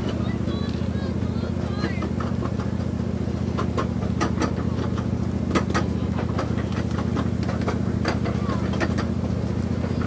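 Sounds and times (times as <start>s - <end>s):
track clicks and clacks: 0.0s - 10.0s
train engine hum: 0.0s - 10.0s.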